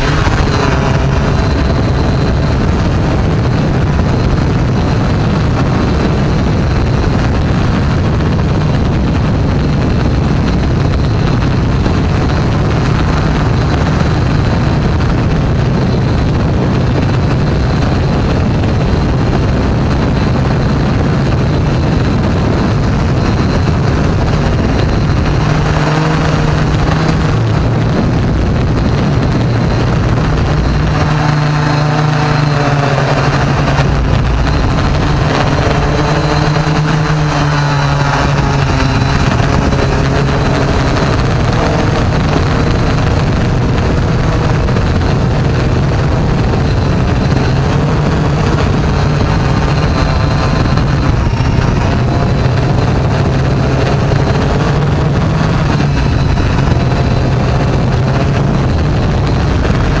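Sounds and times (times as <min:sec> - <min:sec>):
drone propellers buzzing: 0:00.0 - 1:00.0.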